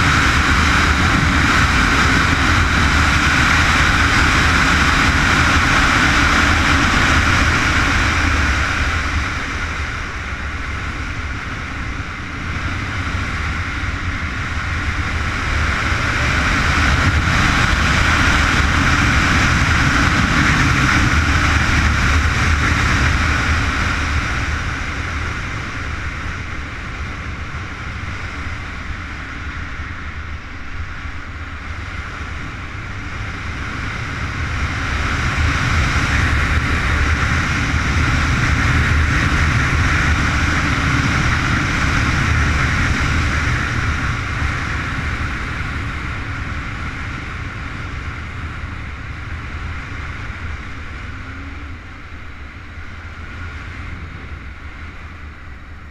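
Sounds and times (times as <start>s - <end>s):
motorcycle engine running hard: 0.0s - 55.9s
wind rush on microphone: 0.0s - 55.9s.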